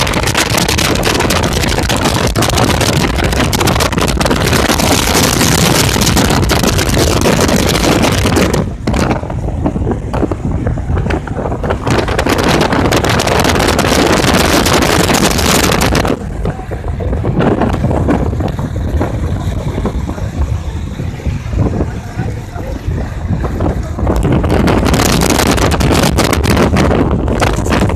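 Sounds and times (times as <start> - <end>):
low rumble: 0.0 - 27.9
road and wind noise: 0.0 - 27.9.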